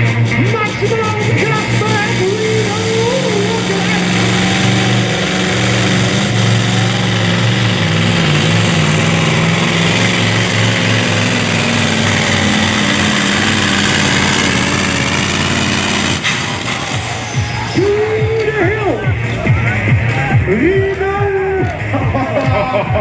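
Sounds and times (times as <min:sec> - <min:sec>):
diesel truck engine at full throttle: 0:00.0 - 0:23.0.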